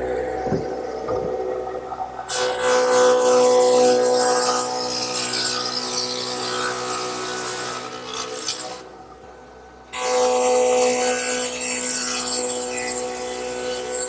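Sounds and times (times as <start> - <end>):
saw cutting wood: 0.0 - 9.0, 9.9 - 14.0
saw running with steady whine: 0.0 - 14.0.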